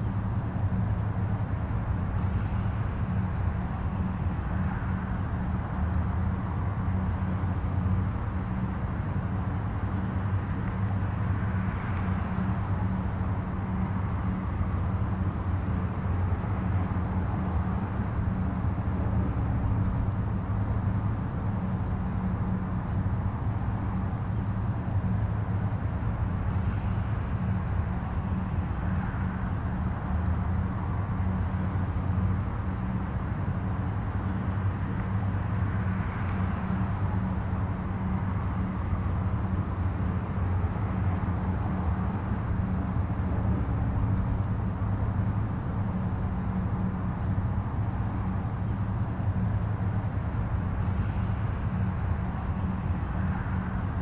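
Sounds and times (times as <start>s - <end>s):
distant highway traffic rumble: 0.0s - 54.0s.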